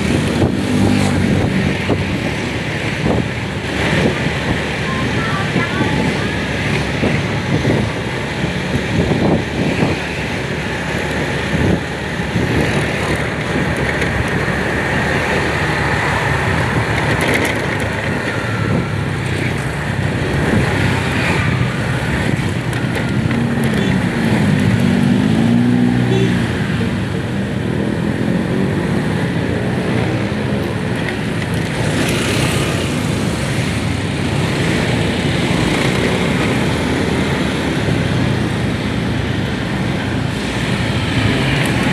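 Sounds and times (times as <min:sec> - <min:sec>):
road rumble: 0:00.0 - 0:41.9
vehicle engine: 0:00.0 - 0:41.9.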